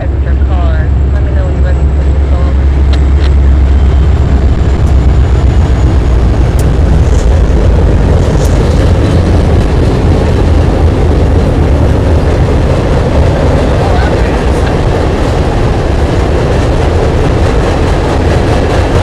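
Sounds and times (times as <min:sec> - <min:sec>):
freight cars rolling: 0:00.0 - 0:19.0
locomotive engines rumbling: 0:00.0 - 0:19.0.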